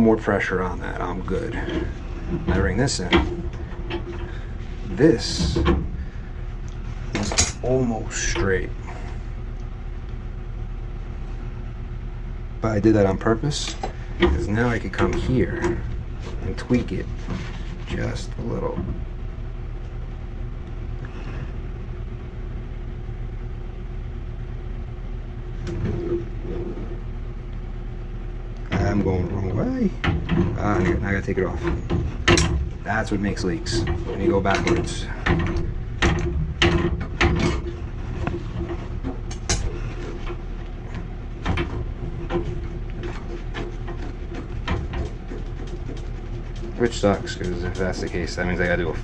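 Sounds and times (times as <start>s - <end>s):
low machine hum: 0.0s - 49.0s.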